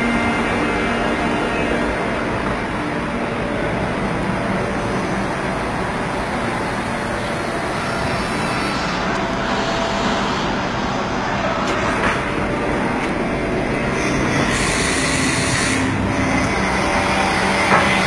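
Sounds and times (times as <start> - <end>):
machine running with hum: 0.0 - 18.0.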